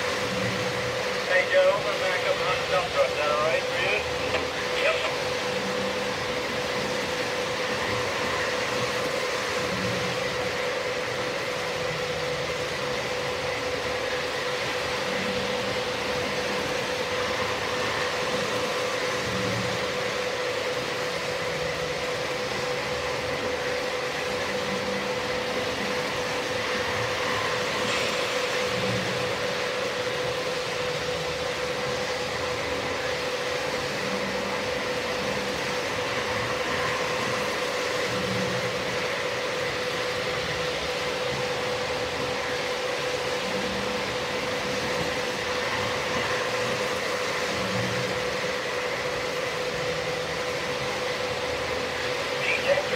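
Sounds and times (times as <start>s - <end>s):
model train motors humming: 0.0s - 52.9s.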